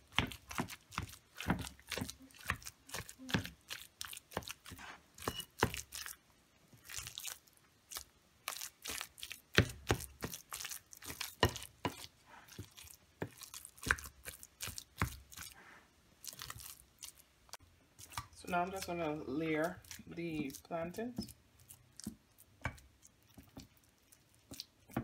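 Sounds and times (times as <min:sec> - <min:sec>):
soft mashing: 0:00.0 - 0:25.0.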